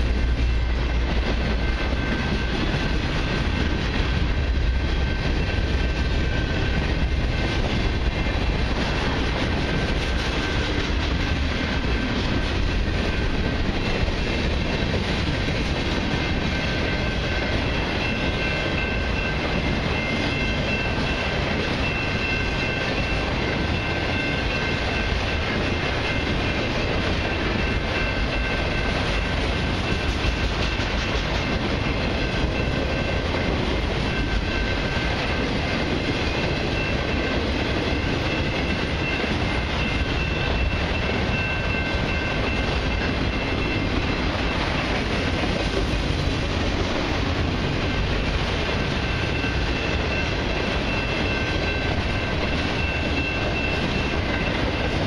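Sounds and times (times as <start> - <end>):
freight train rumbling and rattling: 0.0 - 55.0.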